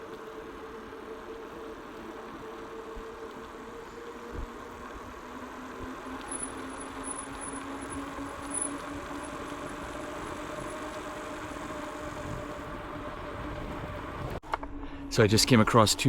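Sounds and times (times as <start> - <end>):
electric motor whine: 0.0 - 14.4.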